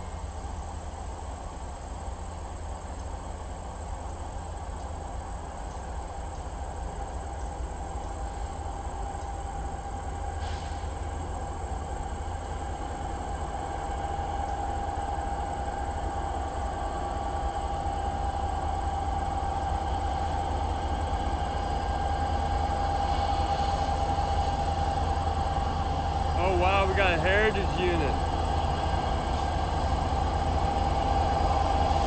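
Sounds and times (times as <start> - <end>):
locomotive engine rumble and whine: 0.0 - 32.0.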